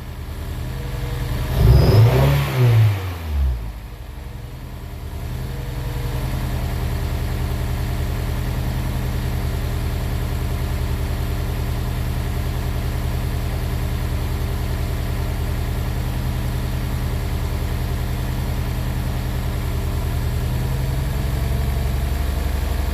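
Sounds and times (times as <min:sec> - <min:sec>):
car engine idling with misfire: 0:00.0 - 0:22.9.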